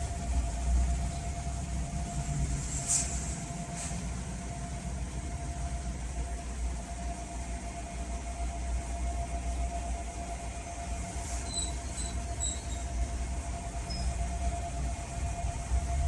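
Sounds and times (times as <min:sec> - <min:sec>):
faint steady whine: 0:00.0 - 0:16.0
steady low rumble: 0:00.0 - 0:16.0.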